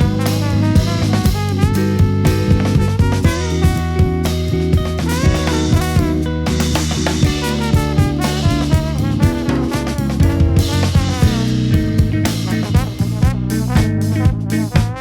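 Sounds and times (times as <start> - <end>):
drum kit beat: 0.0 - 15.0
electric bass: 0.0 - 15.0
horn section lines: 0.0 - 15.0.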